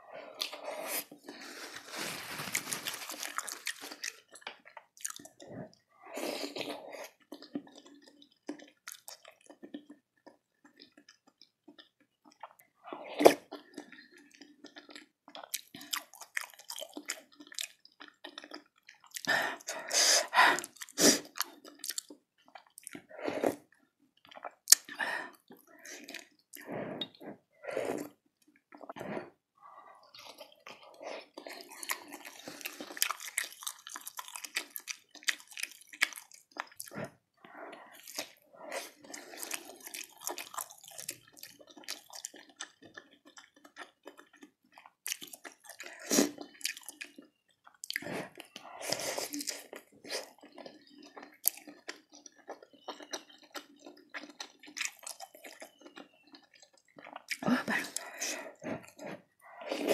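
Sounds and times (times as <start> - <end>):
wet chewing and slurping: 0.1 - 59.9.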